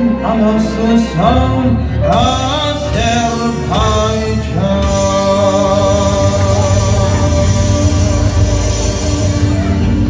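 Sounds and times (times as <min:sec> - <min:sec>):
man singing through microphone: 0:00.0 - 0:09.8
instrumental accompaniment: 0:00.0 - 0:10.0.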